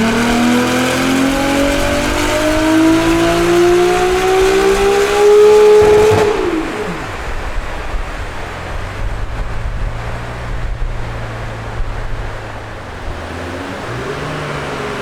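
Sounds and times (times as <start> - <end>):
broad rushing noise: 0.0 - 15.0
car engine droning at low revs: 0.0 - 15.0.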